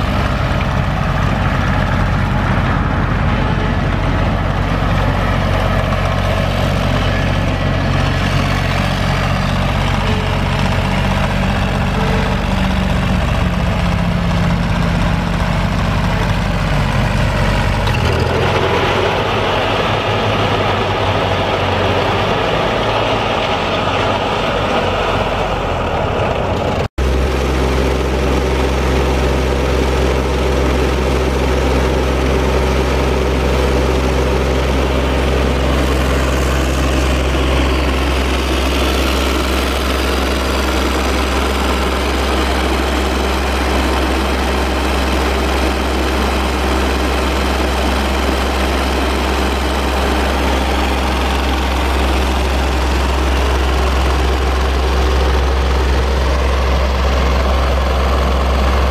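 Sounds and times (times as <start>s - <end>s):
diesel mower engine running: 0.0s - 58.9s.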